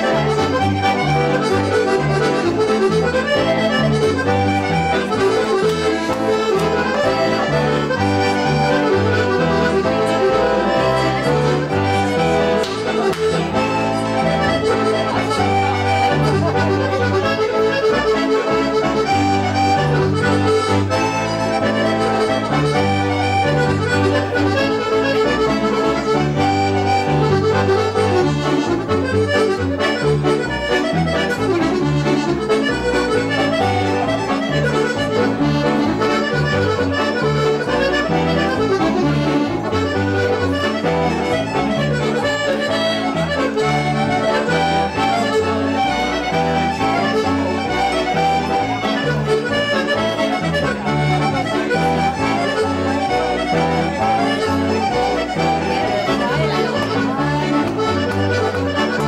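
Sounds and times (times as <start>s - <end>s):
accordions playing a reel: 0.0s - 59.0s.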